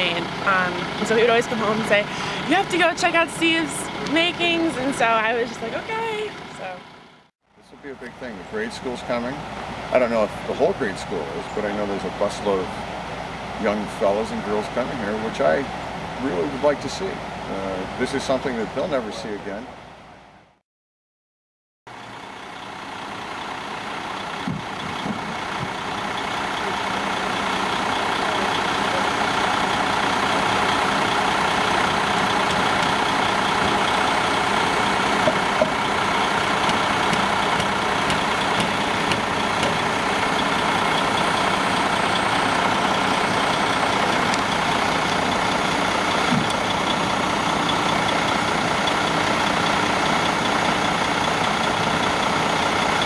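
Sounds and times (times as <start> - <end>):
heavy machinery engine humming: 0.0 - 20.0, 21.9 - 53.0.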